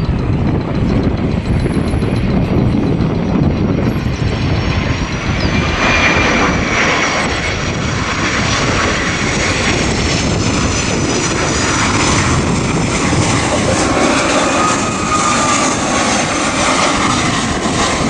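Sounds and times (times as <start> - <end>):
airplane engines rushing: 0.0 - 18.0
wind buffeting microphone: 0.0 - 18.0.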